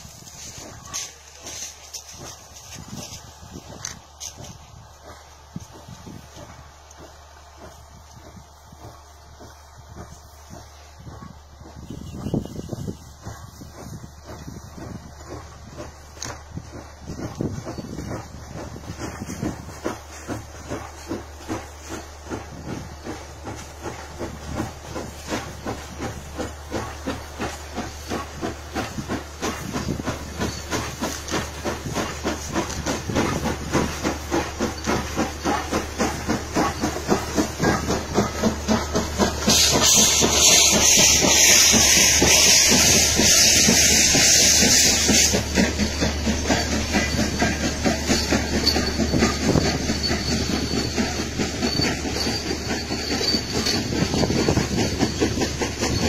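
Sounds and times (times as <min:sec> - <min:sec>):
loud hiss of steam: 0:00.0 - 0:56.0
steam locomotive chuffing: 0:00.0 - 0:56.0
train coaches clattering: 0:00.0 - 0:56.0.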